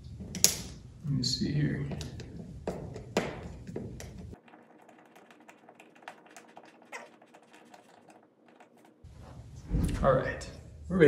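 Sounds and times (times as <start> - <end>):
faint ticking and scraping: 1.1 - 10.1.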